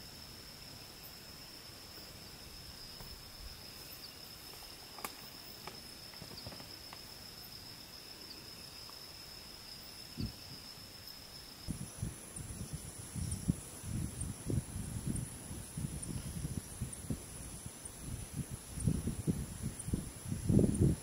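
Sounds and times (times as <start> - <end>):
faint night ambience: 0.0 - 21.0.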